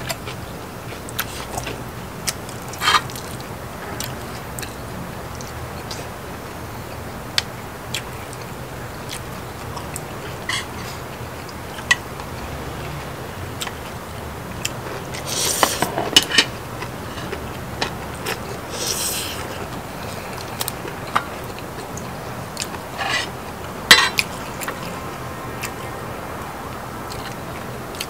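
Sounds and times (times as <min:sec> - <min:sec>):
chewing: 0:00.0 - 0:06.1, 0:07.4 - 0:13.0, 0:13.6 - 0:26.0, 0:26.7 - 0:28.0.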